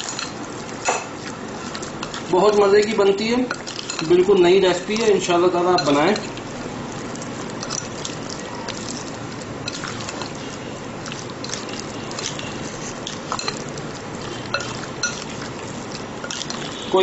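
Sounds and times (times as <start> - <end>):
wet squelching of marinade: 0.0 - 17.0.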